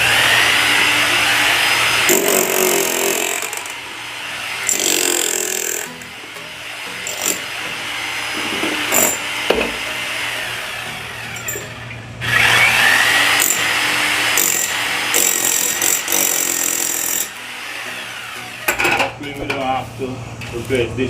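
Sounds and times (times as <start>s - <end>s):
power tool running: 0.0s - 19.0s.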